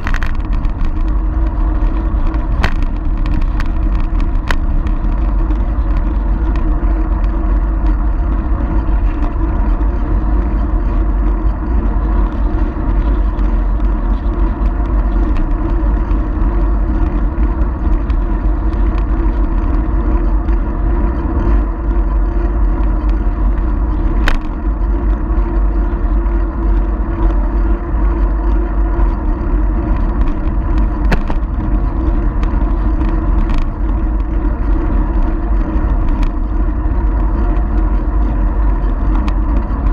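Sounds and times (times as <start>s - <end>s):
wind buffeting and riding noise: 0.0s - 39.9s.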